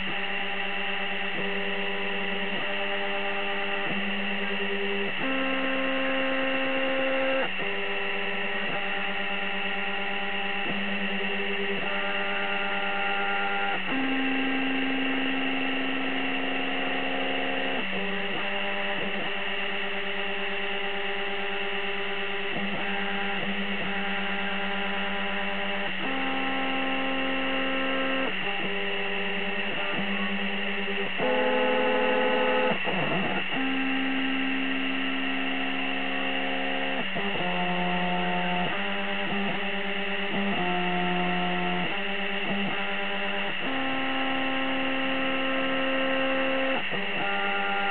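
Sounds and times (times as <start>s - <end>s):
steady hum: 0.0s - 47.9s.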